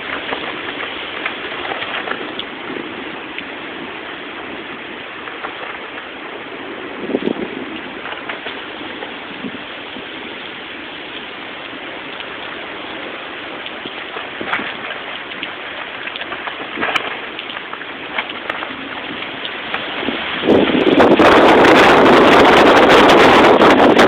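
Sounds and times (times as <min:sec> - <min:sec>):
rain hissing: 0:00.0 - 0:24.0
sharp taps of raindrops: 0:00.0 - 0:24.0.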